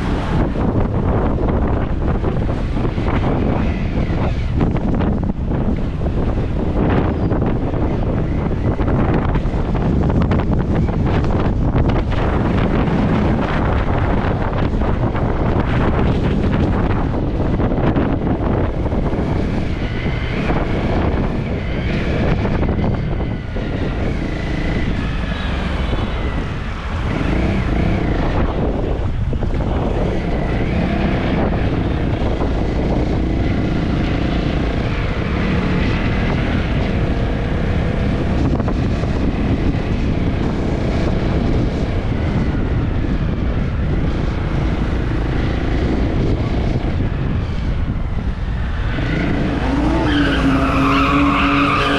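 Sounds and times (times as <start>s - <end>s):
motorcycle engine revving: 0.0s - 51.9s
wind buffeting microphone: 0.0s - 51.9s.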